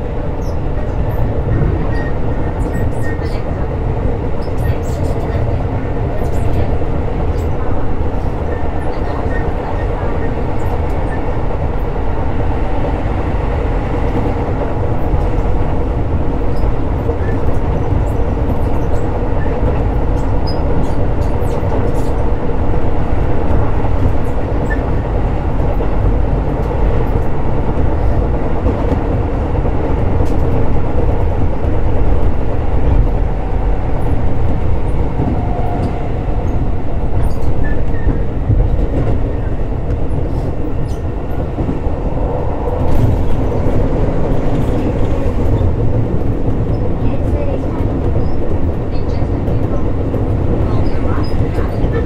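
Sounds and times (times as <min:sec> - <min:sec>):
steady train drone: 0:00.0 - 0:52.0
train wheels rumbling on rail: 0:00.0 - 0:52.0.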